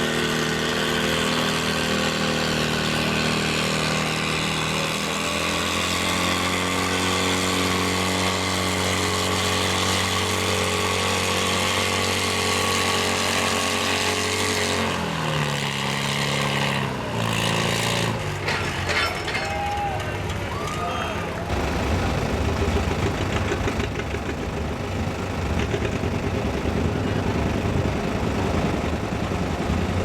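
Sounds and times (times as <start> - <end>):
tractor engine running hard: 0.0 - 19.4, 20.0 - 30.0.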